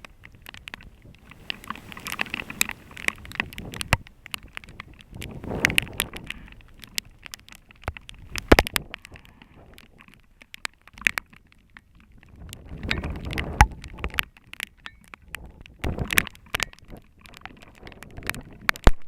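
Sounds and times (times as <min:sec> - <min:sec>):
wind buffeting microphone: 0:00.0 - 0:10.0, 0:11.8 - 0:18.9
raindrops tapping: 0:00.0 - 0:19.0.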